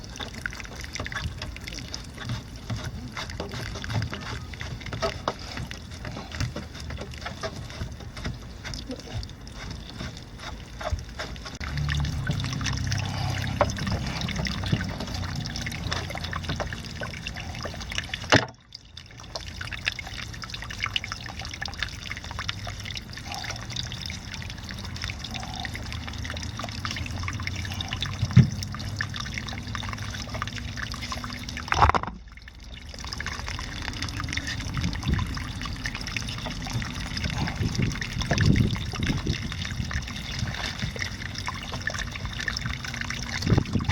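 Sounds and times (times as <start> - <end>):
low steady hum: 0.0 - 43.9
water trickling and splashing: 0.0 - 43.9.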